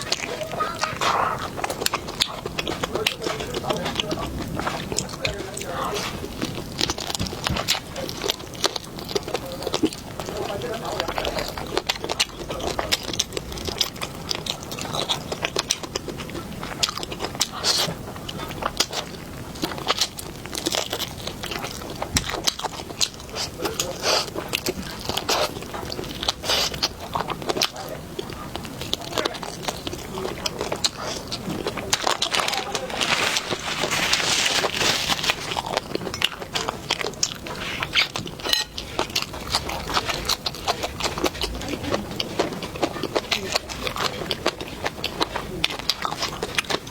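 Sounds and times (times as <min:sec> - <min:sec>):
mouth clicks and smacks: 0:00.0 - 0:46.9
person chewing food: 0:00.0 - 0:46.9.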